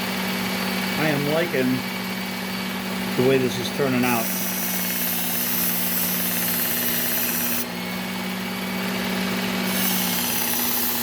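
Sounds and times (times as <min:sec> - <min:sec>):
knife sharpener motor hum: 0:00.0 - 0:11.0.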